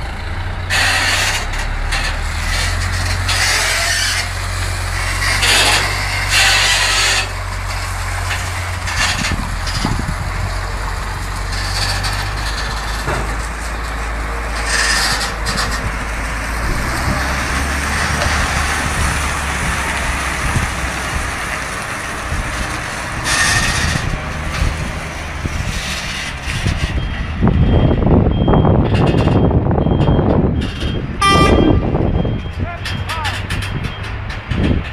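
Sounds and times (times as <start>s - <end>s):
diesel truck engines rumbling: 0.0s - 34.9s.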